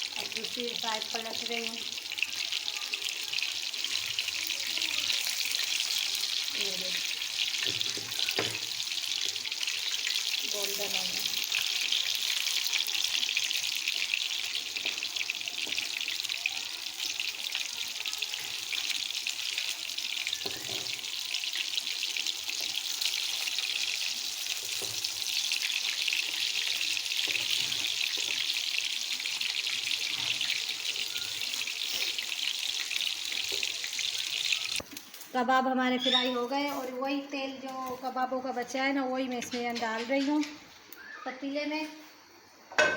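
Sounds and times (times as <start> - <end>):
meat sizzling in a pan: 0.0 - 39.8.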